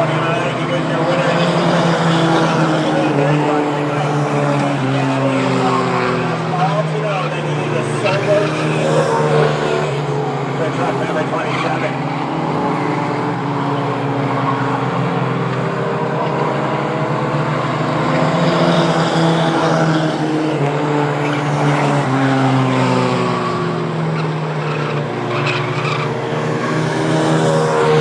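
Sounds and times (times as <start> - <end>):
racing truck engines passing: 0.0 - 28.0.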